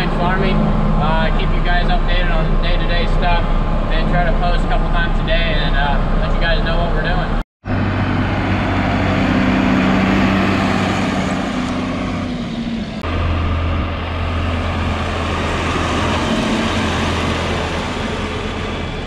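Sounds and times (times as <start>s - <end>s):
tractor diesel engines running: 0.0s - 19.0s.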